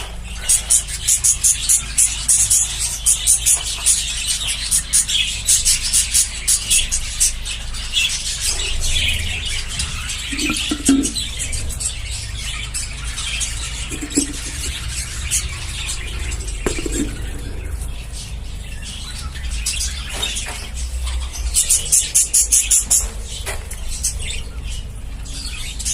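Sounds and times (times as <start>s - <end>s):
budgerigars chirping and chattering: 0.0s - 25.9s.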